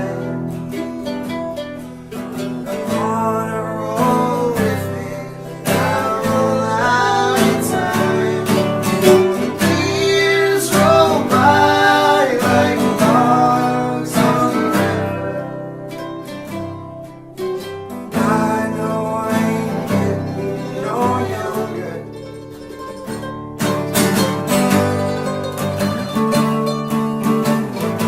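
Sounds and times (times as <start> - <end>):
strummed acoustic guitar folk song: 0.0 - 28.0.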